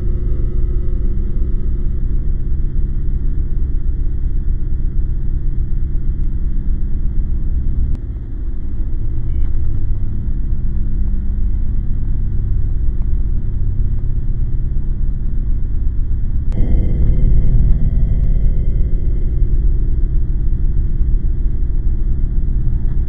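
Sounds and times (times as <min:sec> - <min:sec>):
deep low rumble: 0:00.0 - 0:23.0
faint steady hum: 0:00.0 - 0:23.0.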